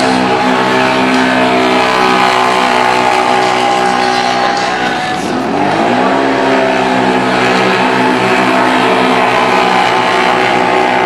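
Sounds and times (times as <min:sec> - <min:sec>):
atv engines revving high: 0:00.0 - 0:11.0.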